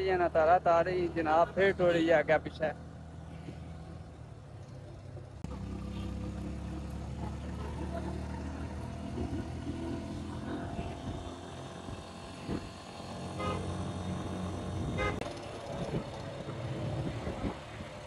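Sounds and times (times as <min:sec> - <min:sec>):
pickup engine and road noise: 0:00.0 - 0:18.0.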